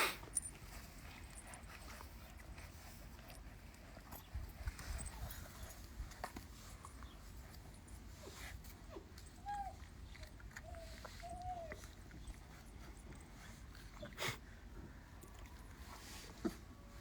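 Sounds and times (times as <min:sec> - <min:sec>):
puppies whining: 0:00.4 - 0:14.4.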